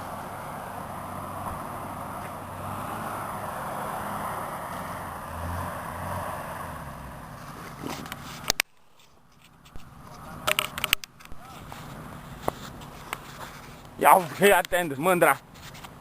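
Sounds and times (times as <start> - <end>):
car engine running under load: 0.0 - 14.0.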